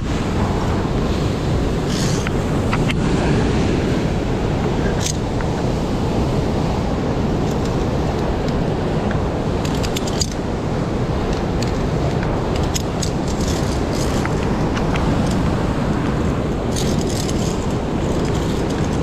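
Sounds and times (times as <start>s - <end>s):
stream rushing: 0.0s - 19.0s
wind on microphone: 0.0s - 19.0s.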